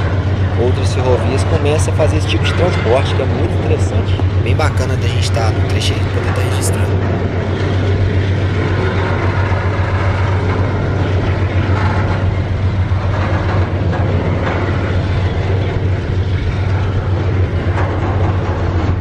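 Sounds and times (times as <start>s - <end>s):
steel wheels rumbling on rails: 0.0s - 19.0s.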